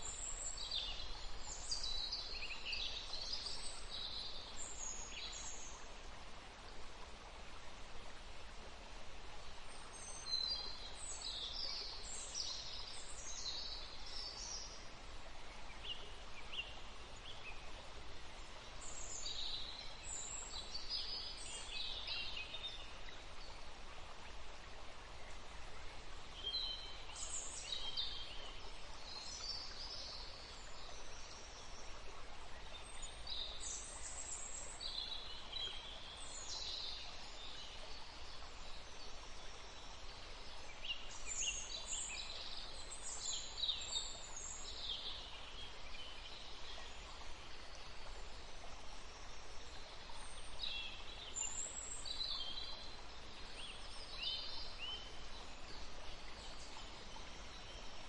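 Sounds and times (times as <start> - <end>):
faint background hiss: 0.0 - 58.0.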